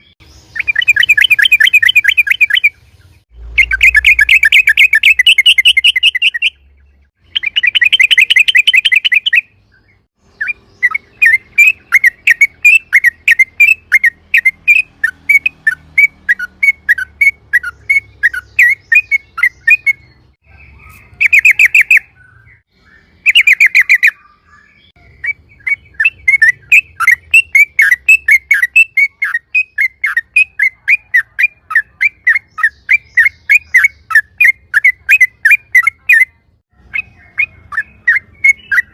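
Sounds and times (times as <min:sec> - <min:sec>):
bulbul calling: 0:00.0 - 0:38.9.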